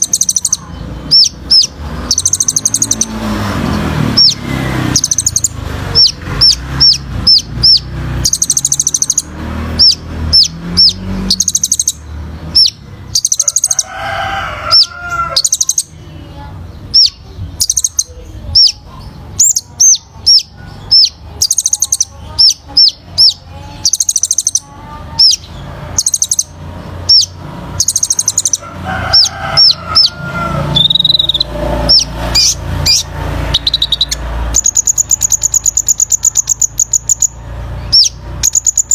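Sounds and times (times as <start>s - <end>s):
sunbird singing: 0.0s - 38.9s.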